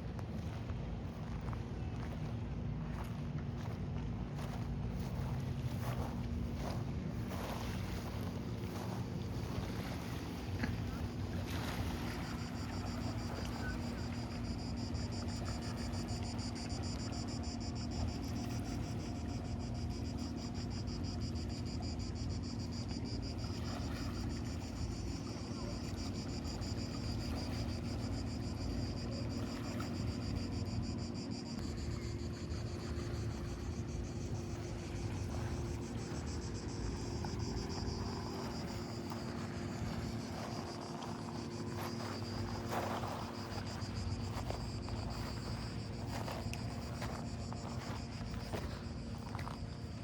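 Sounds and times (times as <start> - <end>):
low steady hum: 0.0 - 50.0
insects chirring: 3.6 - 50.0.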